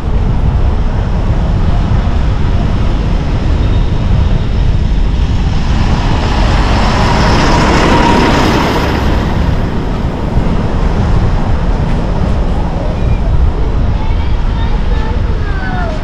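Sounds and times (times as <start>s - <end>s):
vehicle passing close by: 0.0s - 13.9s
low traffic rumble: 0.0s - 16.0s.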